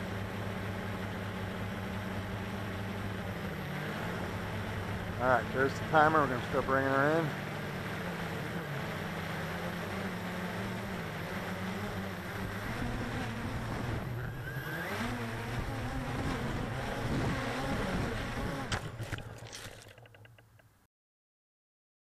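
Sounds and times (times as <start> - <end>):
drone motors whining: 0.0 - 20.4.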